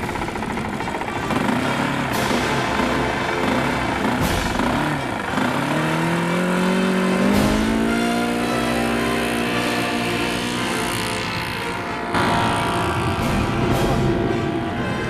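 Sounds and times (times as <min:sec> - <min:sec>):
model plane engine revving: 0:00.0 - 0:14.0.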